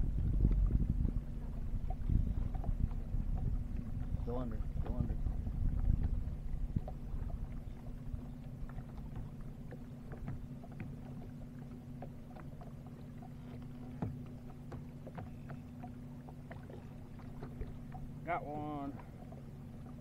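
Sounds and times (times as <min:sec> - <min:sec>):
boat motor humming: 0:00.0 - 0:20.0
water slapping against hull: 0:00.0 - 0:20.0.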